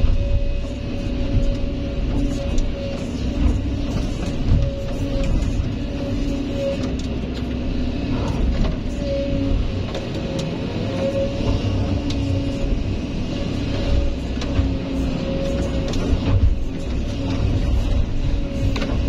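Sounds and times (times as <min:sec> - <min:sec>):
excavator diesel engine rumble: 0:00.0 - 0:19.0.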